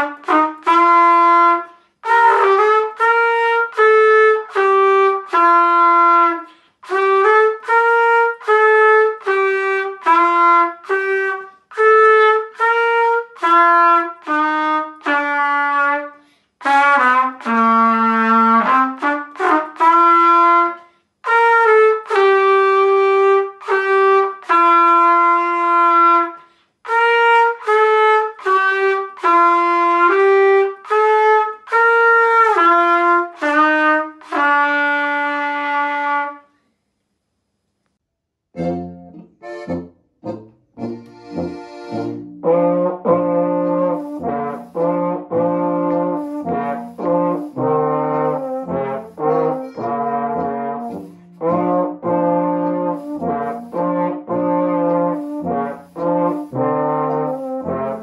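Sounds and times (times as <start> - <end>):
solo trumpet melody: 0.0 - 36.5, 38.6 - 58.0.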